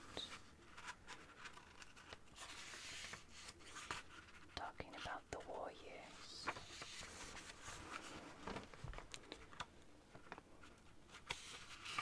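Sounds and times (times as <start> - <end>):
page being turned: 0.1 - 4.5, 6.4 - 12.0.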